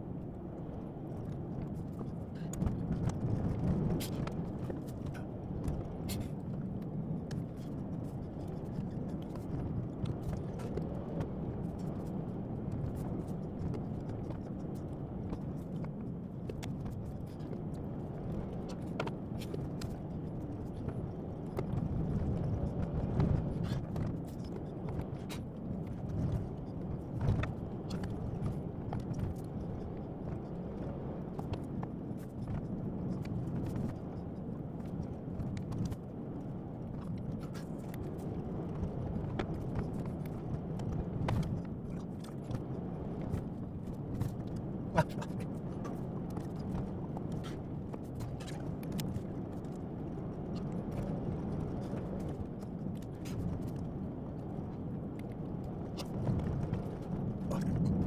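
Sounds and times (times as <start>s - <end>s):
car engine and tyres rumbling: 0.1s - 58.0s.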